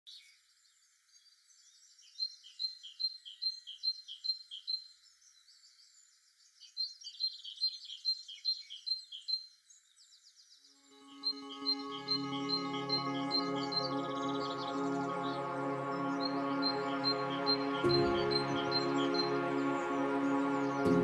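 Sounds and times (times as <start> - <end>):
faint birds chirping: 0.1 - 21.0
songbird singing: 0.1 - 21.0.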